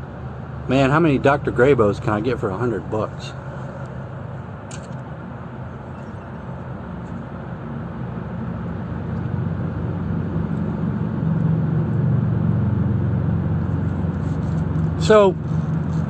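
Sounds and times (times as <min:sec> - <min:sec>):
road noise: 0:00.0 - 0:16.0
vehicle engine rumble: 0:00.0 - 0:16.0.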